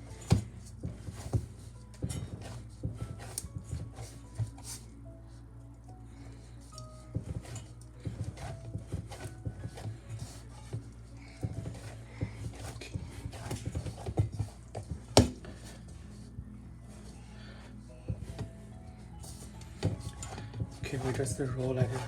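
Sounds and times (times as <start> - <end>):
dough kneading thuds: 0.0 - 5.0, 6.9 - 18.6, 19.2 - 22.0.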